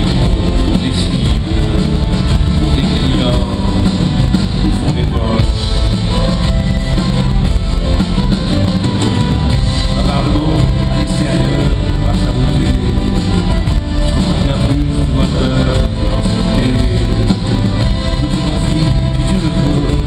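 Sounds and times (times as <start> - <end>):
man singing into microphone: 0.0 - 6.6, 9.8 - 20.0
rock band playing: 0.0 - 20.0.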